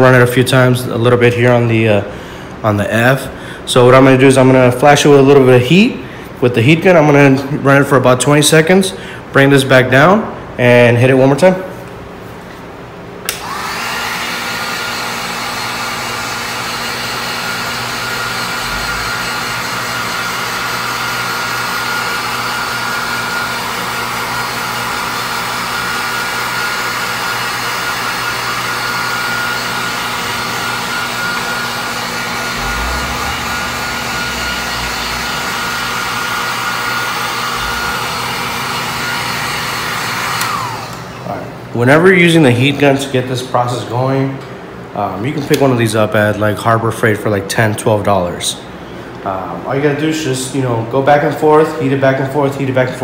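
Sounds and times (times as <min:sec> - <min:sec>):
heat gun fan whining: 0:00.0 - 0:53.0.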